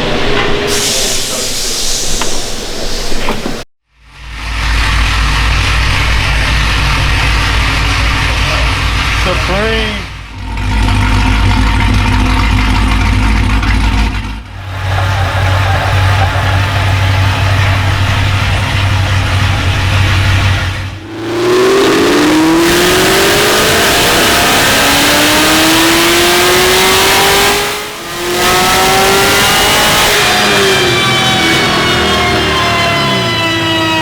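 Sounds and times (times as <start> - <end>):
sports car engine revving: 4.6 - 34.0.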